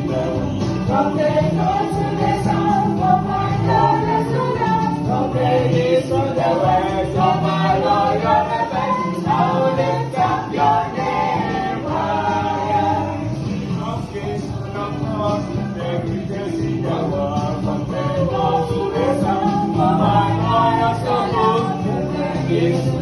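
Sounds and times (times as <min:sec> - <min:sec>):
choir singing upbeat song: 0:00.0 - 0:23.0.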